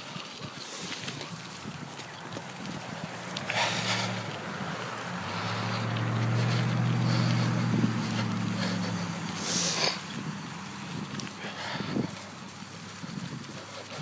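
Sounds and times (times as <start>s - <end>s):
engine humming: 0.1s - 14.0s.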